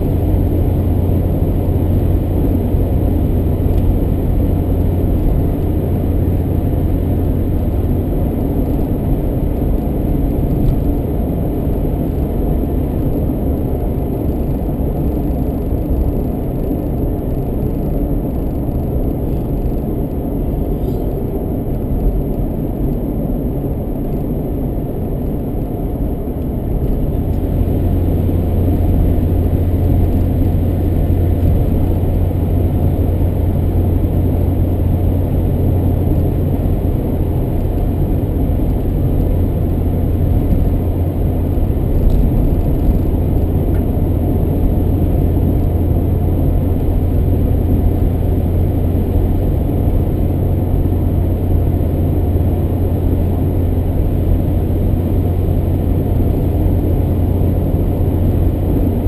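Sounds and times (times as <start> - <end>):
car interior road rumble: 0.0 - 59.0
deep drone: 0.0 - 59.0.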